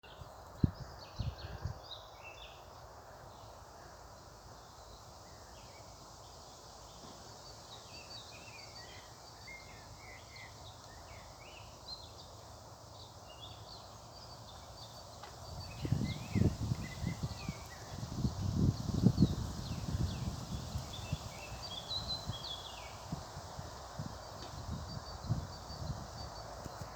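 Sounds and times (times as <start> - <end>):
small birds chirping: 0.0 - 26.9
background hiss: 0.1 - 26.9.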